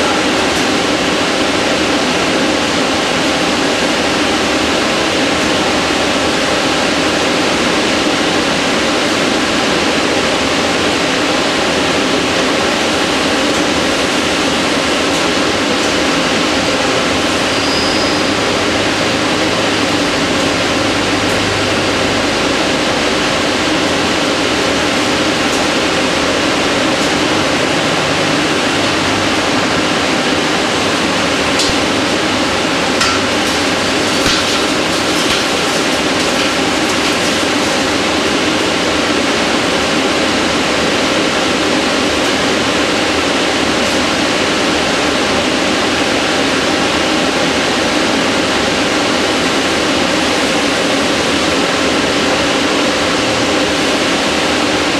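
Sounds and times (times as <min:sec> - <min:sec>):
lathe machining noise: 0:00.0 - 0:54.9.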